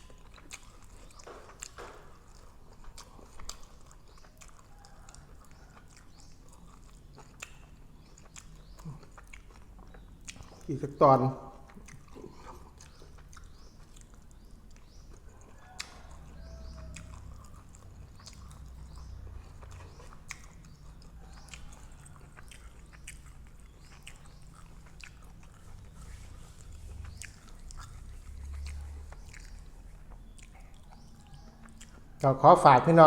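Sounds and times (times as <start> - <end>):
person chewing with mouth smacks: 0.0 - 32.3.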